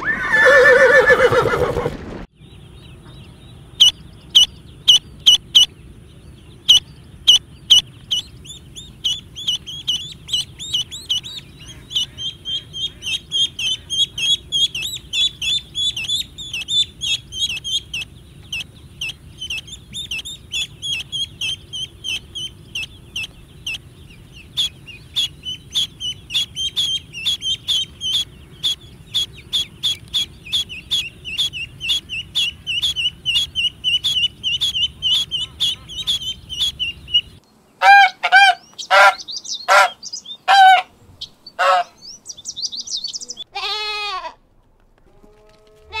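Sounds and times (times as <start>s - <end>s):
ducklings peeping: 2.4s - 43.5s
low background hum: 2.4s - 46.0s.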